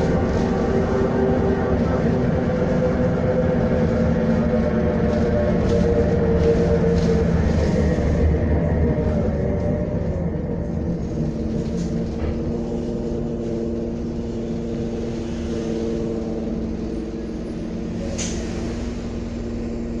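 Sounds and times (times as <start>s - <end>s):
bus diesel engine hum: 0.0s - 20.0s.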